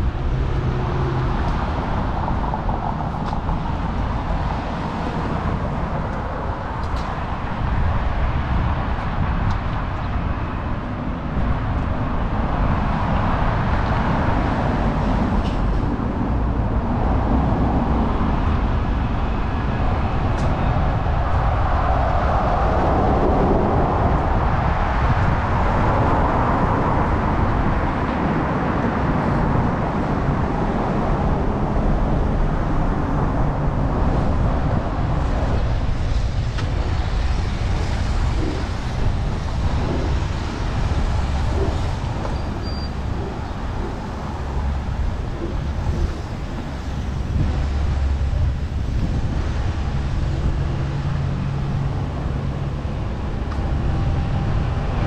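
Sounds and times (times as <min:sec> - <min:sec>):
road traffic passing: 0:00.0 - 0:55.0
wind rumble on microphone: 0:00.0 - 0:55.0.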